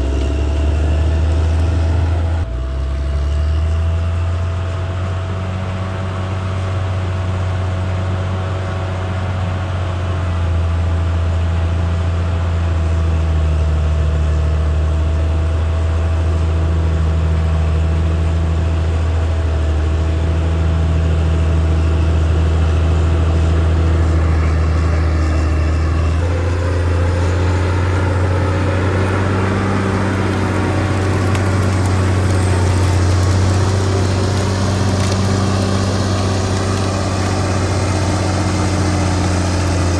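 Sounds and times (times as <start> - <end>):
bulldozer diesel engine humming: 0.0 - 39.9.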